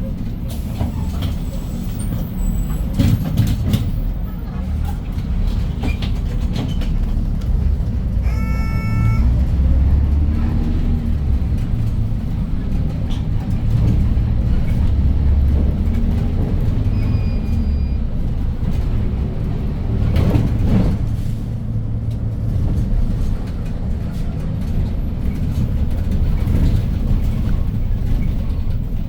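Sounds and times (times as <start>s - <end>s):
bus engine drone: 0.0s - 29.0s
road noise: 0.0s - 29.0s.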